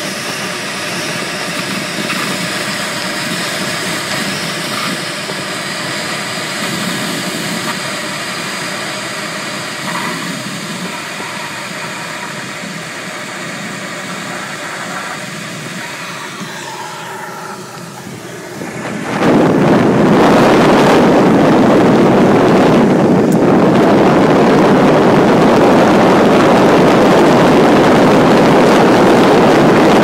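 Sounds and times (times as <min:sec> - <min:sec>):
airflow rushing around glider: 0:00.0 - 0:30.0.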